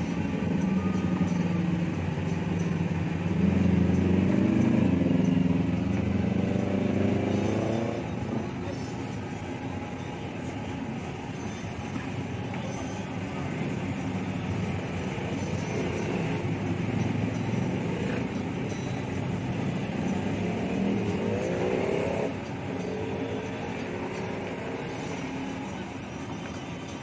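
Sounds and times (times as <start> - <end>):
passing road traffic rumble: 0.0 - 27.0.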